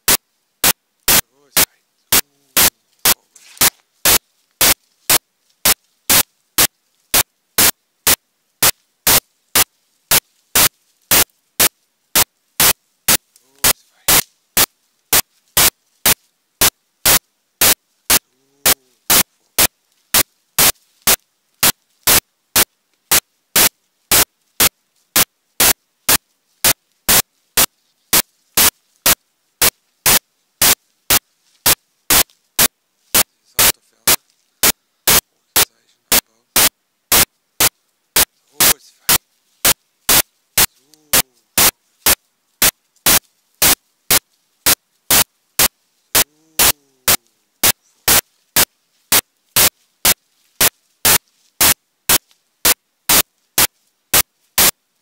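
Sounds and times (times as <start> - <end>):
bursts of harsh static: 0.0 - 55.0.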